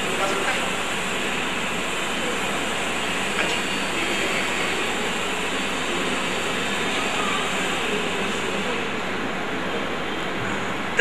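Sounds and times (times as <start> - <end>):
rushing background noise of a hall: 0.0 - 11.0.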